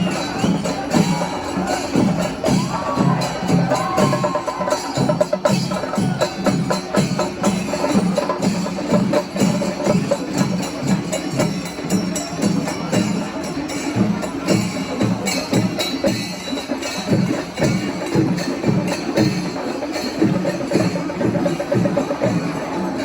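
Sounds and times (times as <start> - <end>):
drums playing fast rhythm: 0.0 - 23.0
small hand cymbals: 0.0 - 23.0.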